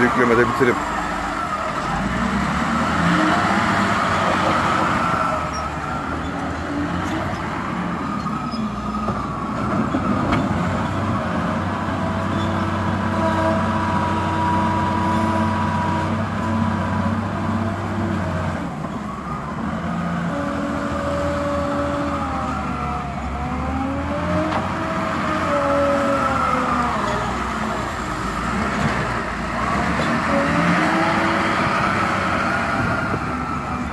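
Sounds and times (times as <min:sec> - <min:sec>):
loader diesel engine under load: 0:00.0 - 0:33.9.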